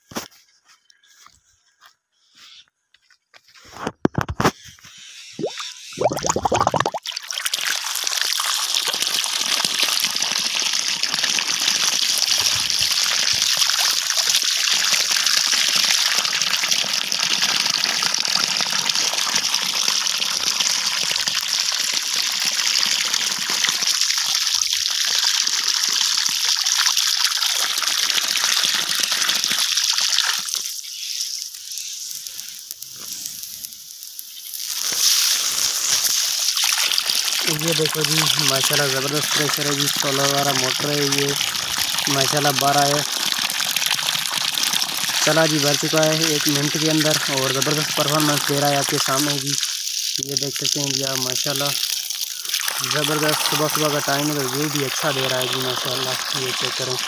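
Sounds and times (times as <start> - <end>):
hose water spraying onto soil: 5.4 - 57.0.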